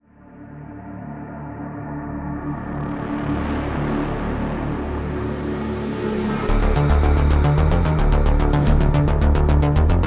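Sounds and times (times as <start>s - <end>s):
ambient music low held tones: 0.0s - 10.0s.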